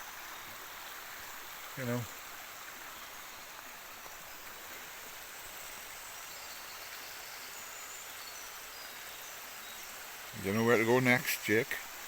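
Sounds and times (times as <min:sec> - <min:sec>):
river water rushing: 0:00.0 - 0:06.8, 0:07.4 - 0:12.0.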